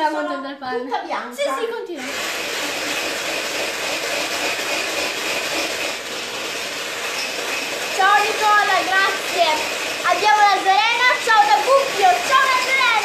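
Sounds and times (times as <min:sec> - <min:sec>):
electric hand mixer whipping cream: 0:02.0 - 0:13.0.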